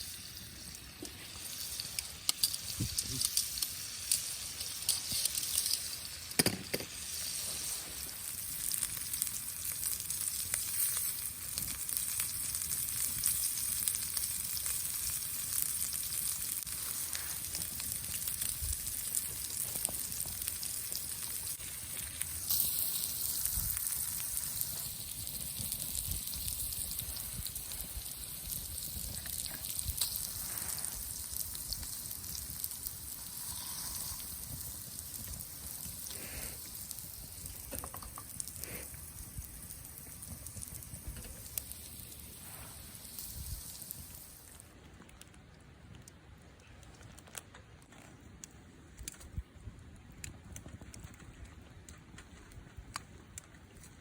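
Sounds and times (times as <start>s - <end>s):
food sizzling in a hot pan: 0.0s - 44.6s.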